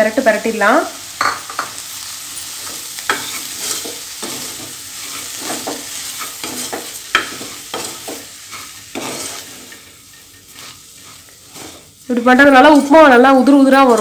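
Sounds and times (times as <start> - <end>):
hot oil sizzling: 0.0 - 14.0
spatula scraping pan: 2.4 - 14.0.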